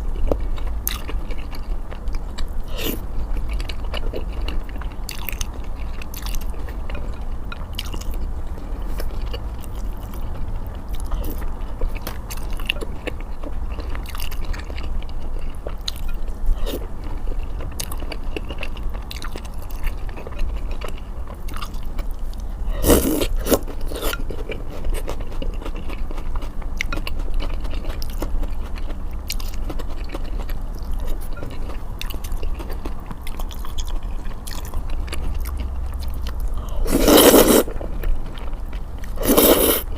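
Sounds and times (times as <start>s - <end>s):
steady low hum: 0.0s - 39.9s
wet chewing: 0.0s - 39.9s.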